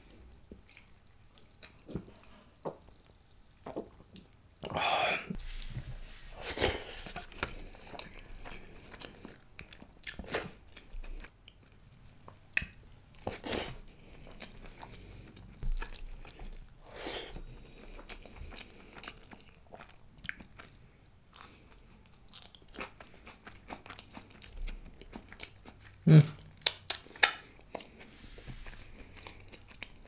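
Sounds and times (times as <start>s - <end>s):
chewing and wet mouth sounds: 0.1s - 4.8s, 6.3s - 30.0s.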